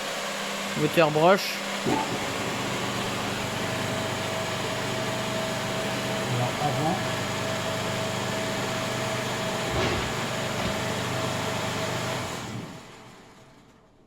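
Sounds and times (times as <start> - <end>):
milling machine motor humming: 0.0 - 13.5.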